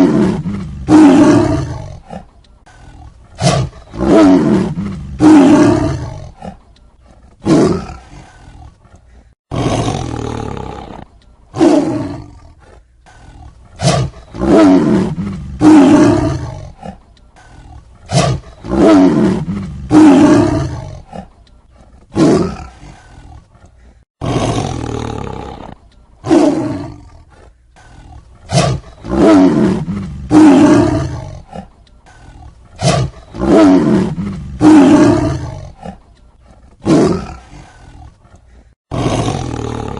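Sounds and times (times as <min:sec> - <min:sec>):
tiger roaring: 0:00.0 - 0:39.9.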